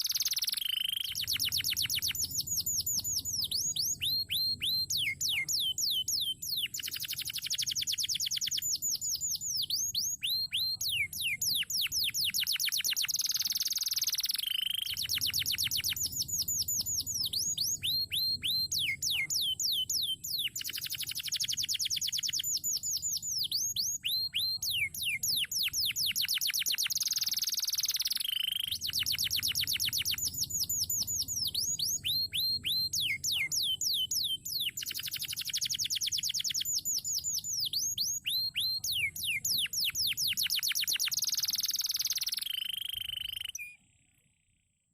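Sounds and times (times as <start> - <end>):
canary singing trills: 0.0 - 44.1.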